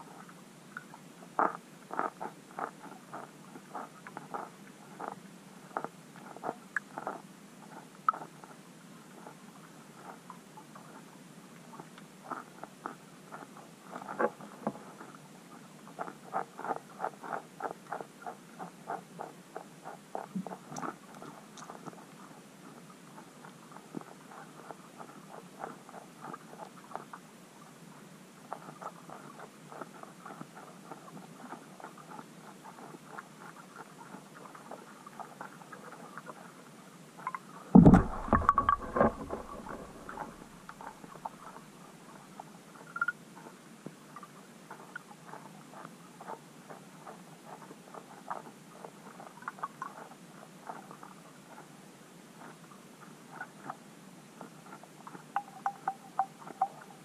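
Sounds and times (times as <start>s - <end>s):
rapid soft underwater clicks: 0.1s - 51.8s, 54.4s - 57.0s.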